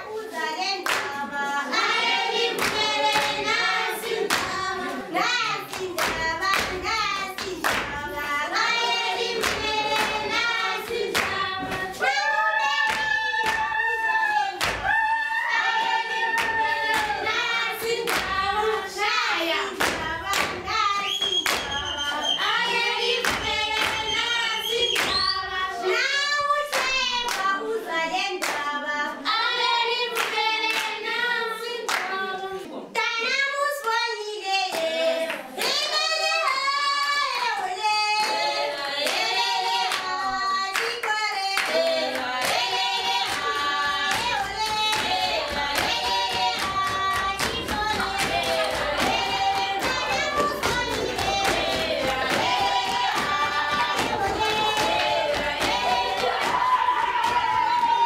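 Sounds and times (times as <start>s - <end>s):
children singing in unison: 0.0s - 58.0s
hand clapping: 0.4s - 25.5s, 26.3s - 27.6s, 28.4s - 28.7s, 30.0s - 31.1s, 31.9s - 32.2s, 34.7s - 58.0s.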